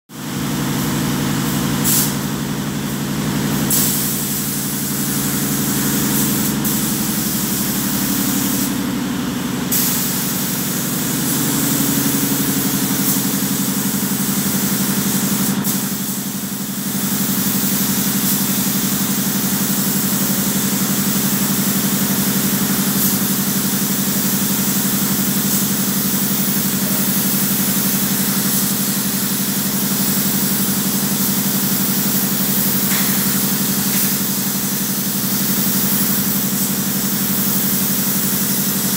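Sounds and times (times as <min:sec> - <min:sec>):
paint spray gun hissing: 0:01.8 - 0:02.4, 0:03.6 - 0:38.9.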